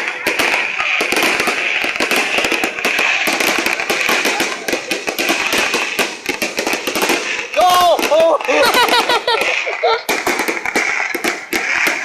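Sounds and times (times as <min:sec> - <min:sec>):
continuous hiss: 0:00.0 - 0:12.0
fireworks crackling: 0:00.0 - 0:12.0.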